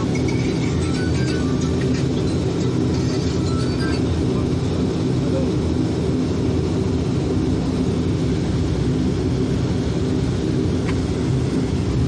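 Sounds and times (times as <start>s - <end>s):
turboprop engines humming: 0.0s - 12.0s.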